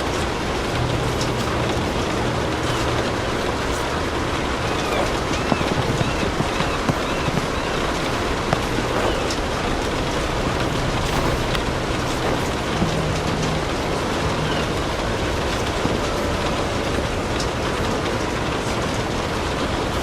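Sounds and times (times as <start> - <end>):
steady rain falling: 0.0 - 20.0
wood fire crackling: 0.0 - 20.0.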